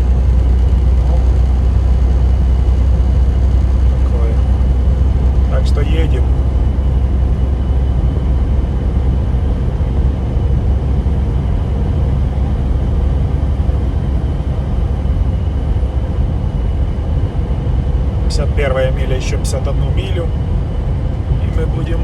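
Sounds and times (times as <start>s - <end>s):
faint steady whine: 0.0s - 22.0s
truck engine and tyre drone: 0.0s - 22.0s.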